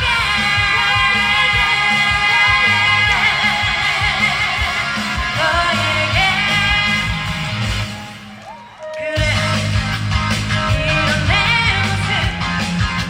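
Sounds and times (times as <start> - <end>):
steady drum beat: 0.0 - 8.3, 9.2 - 13.0
electric guitar: 0.0 - 13.0.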